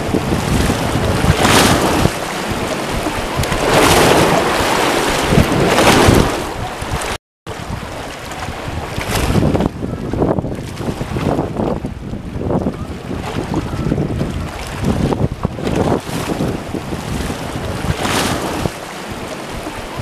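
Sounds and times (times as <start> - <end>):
waves splashing and lapping: 0.0 - 20.0
wind on microphone: 0.0 - 20.0.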